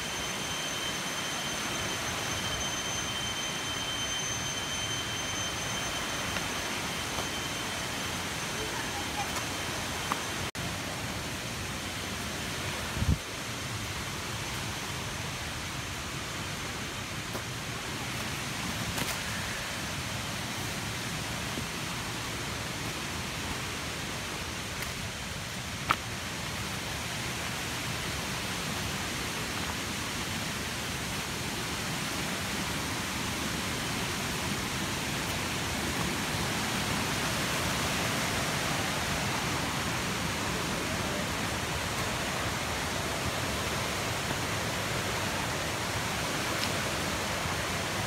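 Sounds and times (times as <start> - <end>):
flowing water rushing: 0.0 - 48.0.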